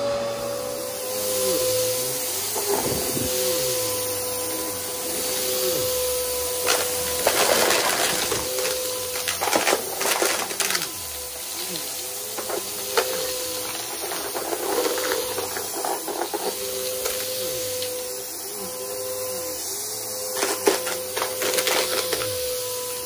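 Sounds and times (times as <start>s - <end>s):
vacuum cleaner motor whine: 0.0s - 23.0s
debris crackling in vacuum: 2.2s - 18.6s, 20.3s - 22.6s.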